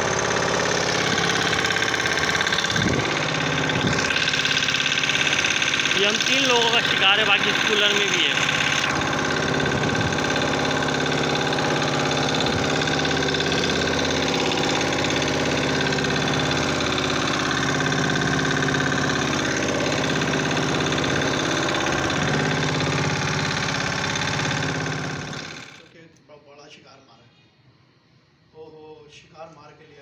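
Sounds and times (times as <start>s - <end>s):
boat engine running: 0.0s - 25.8s.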